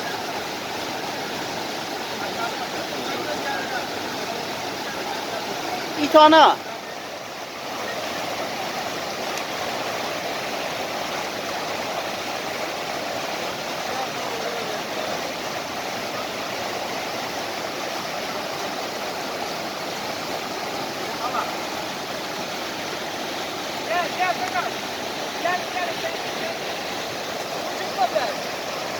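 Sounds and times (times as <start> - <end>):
flowing water rushing: 0.0 - 28.9.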